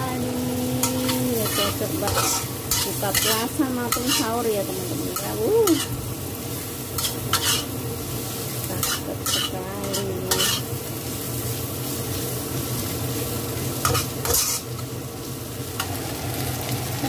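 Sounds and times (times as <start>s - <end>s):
food sizzling: 0.0s - 17.0s
spatula scraping wok: 0.3s - 15.0s.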